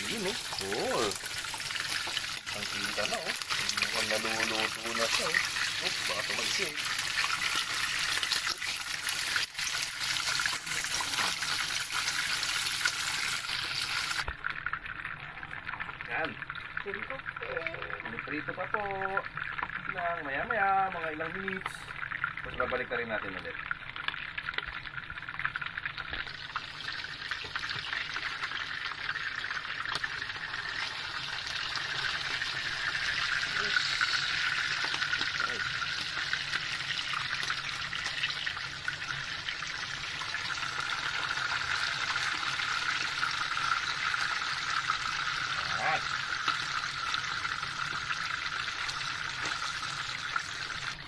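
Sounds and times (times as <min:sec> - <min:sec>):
fish frying in hot oil: 0:00.0 - 0:51.0.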